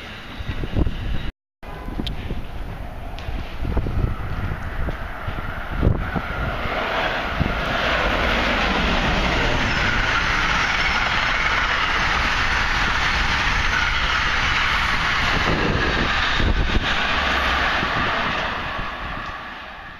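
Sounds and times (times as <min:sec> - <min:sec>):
passenger train passing at speed: 0:00.0 - 0:19.9.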